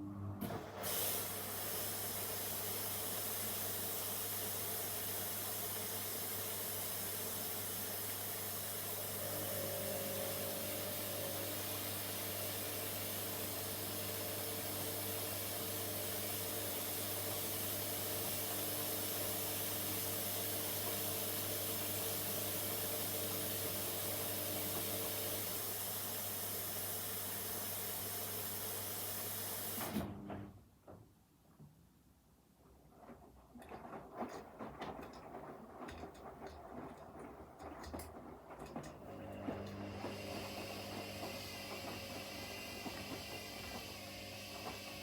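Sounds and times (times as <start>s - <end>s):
washing machine running: 0.0s - 30.6s, 32.8s - 45.0s.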